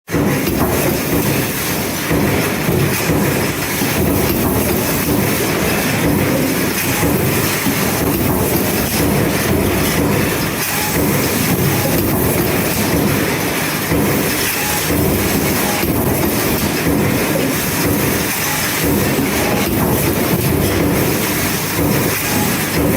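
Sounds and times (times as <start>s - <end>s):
stamping press clatter and rumble: 0.1s - 22.9s.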